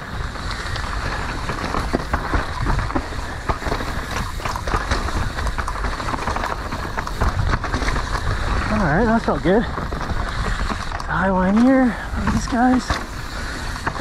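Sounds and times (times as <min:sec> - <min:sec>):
bike chain and frame clattering: 0:00.0 - 0:14.0
tyres rolling over dirt: 0:00.0 - 0:14.0.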